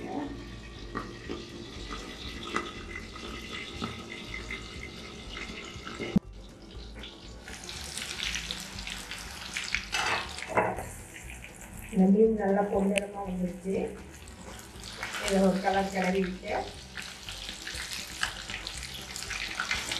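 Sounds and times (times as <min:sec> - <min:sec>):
fish deep-frying in oil: 0:00.0 - 0:19.9.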